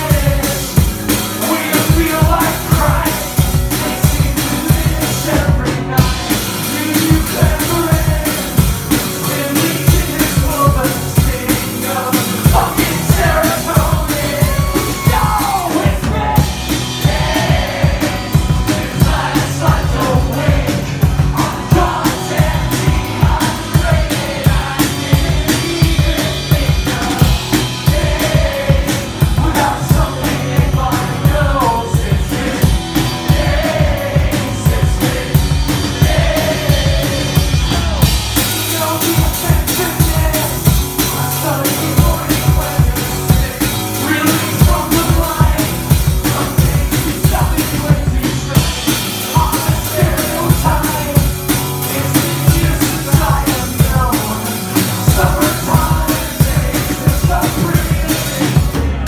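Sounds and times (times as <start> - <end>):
drum kit beat: 0.0 - 59.0
man singing: 0.0 - 59.0.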